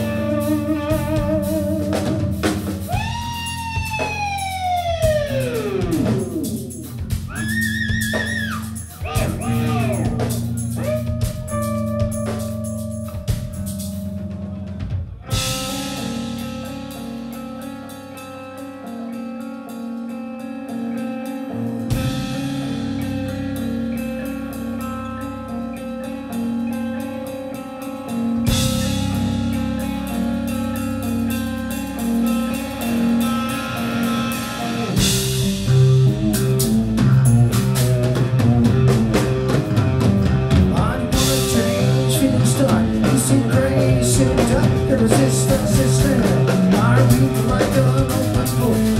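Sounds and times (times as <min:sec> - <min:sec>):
bass guitar: 0:00.0 - 0:48.9
drum kit: 0:00.0 - 0:48.9
electric guitar: 0:00.0 - 0:48.9.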